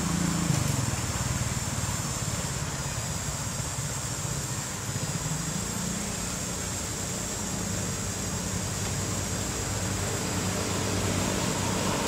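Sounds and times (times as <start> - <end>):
engine rumbling: 0.0 - 12.0
steady high hiss: 0.0 - 12.0.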